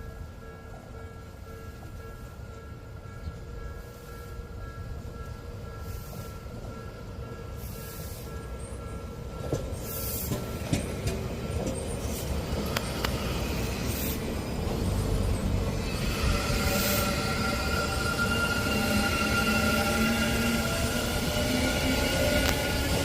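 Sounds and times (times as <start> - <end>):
electric train approaching: 0.0 - 23.0.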